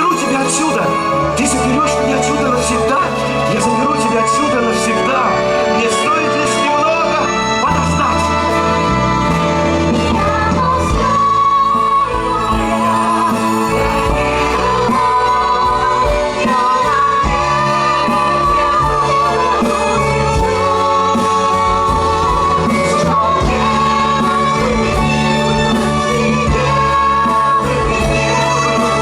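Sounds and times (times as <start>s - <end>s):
instrumental accompaniment with beat: 0.0s - 29.0s.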